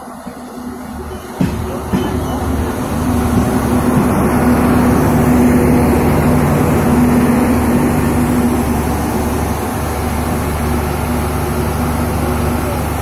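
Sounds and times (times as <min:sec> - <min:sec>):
diesel generator droning: 0:00.0 - 0:13.0.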